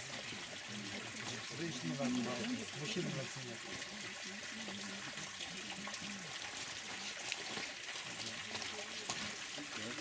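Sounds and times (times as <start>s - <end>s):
spring water running: 0.0s - 10.0s.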